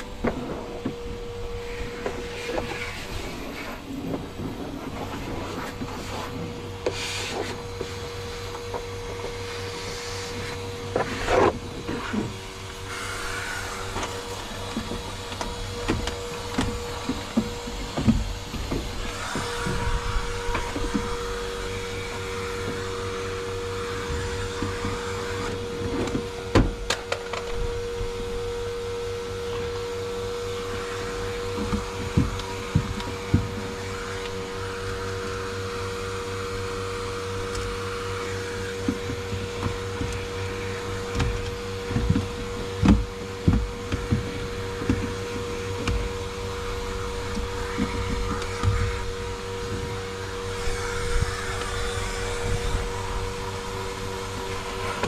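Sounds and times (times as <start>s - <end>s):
motor-like hum: 0.0s - 55.0s.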